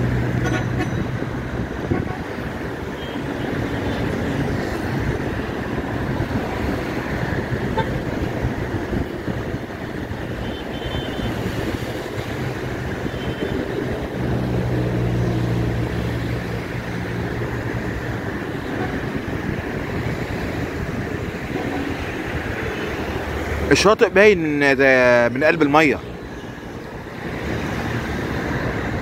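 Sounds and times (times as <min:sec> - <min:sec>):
wind rumbling on microphone: 0:00.0 - 0:23.7
road traffic: 0:00.0 - 0:29.0
vehicle engine hum: 0:00.0 - 0:29.0.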